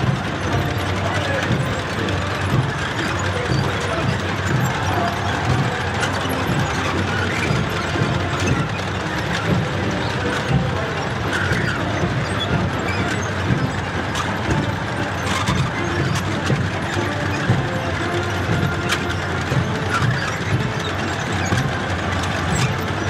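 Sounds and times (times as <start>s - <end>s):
tank engine noise: 0.0s - 23.0s
tank tracks clanking: 0.0s - 23.0s.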